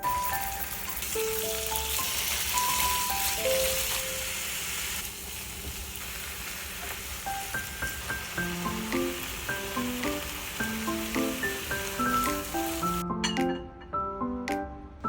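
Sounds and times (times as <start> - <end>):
light background music: 0.0 - 4.8, 7.2 - 15.0
food sizzling in frying pan: 0.0 - 13.0.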